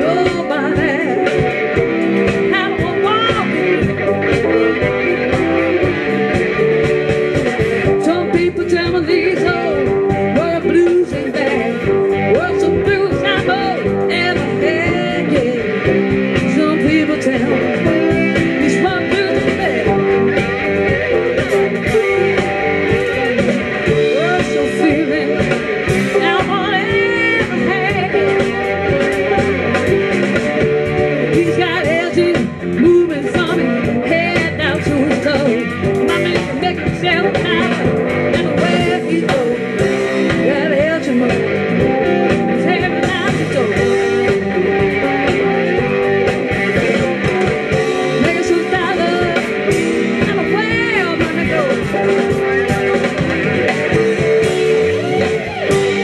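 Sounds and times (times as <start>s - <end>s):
drum kit beat: 0.0s - 56.0s
electric bass: 0.0s - 56.0s
electric guitars: 0.0s - 56.0s.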